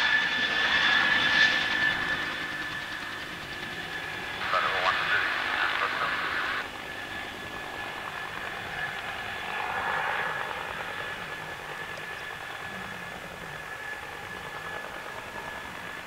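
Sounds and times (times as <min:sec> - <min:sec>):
helicopter rotor noise: 0:00.0 - 0:16.0
helicopter turbine whine: 0:00.0 - 0:16.0.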